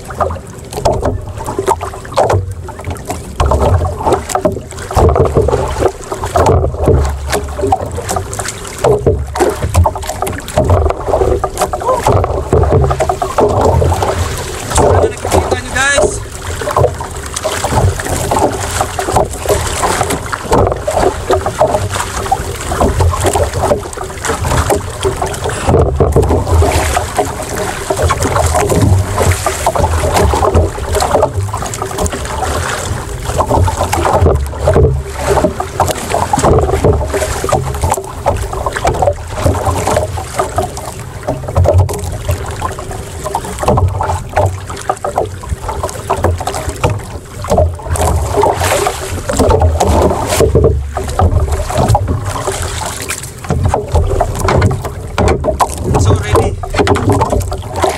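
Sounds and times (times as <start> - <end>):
water slapping against boat: 0.0 - 57.9.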